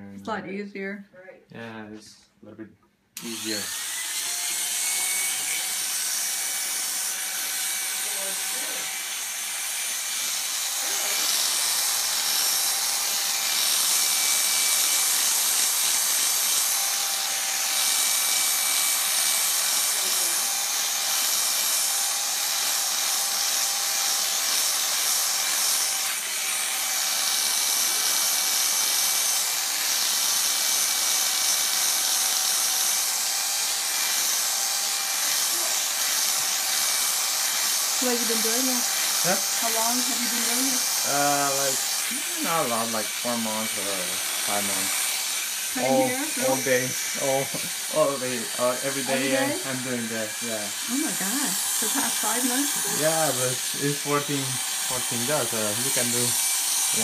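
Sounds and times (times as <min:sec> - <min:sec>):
electric clippers buzzing: 0:03.2 - 0:57.0.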